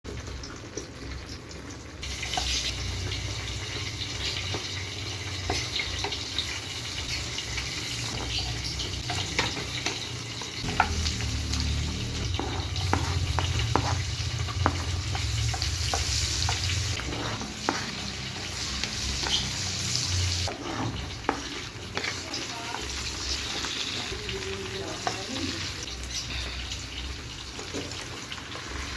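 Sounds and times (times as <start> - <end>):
food sizzling in a pan: 0.1 - 28.9.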